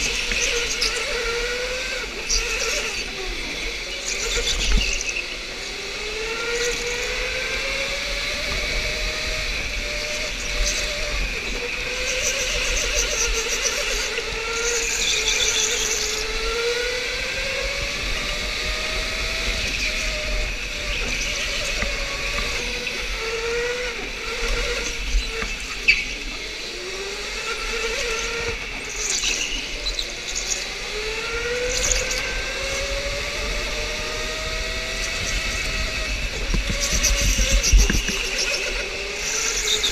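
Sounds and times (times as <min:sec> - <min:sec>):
electric go-kart motor whining: 0:00.0 - 0:39.9.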